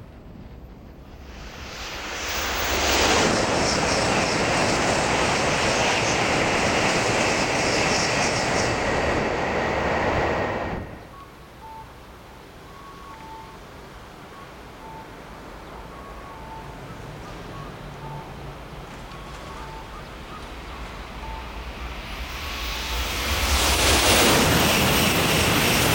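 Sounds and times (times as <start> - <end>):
high-speed train passing: 0.0 - 25.9.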